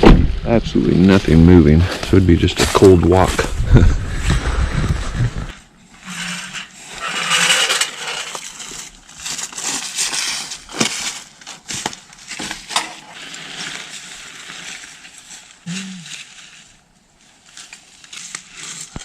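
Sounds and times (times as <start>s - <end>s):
camping gear rustling and scraping: 0.9s - 19.0s.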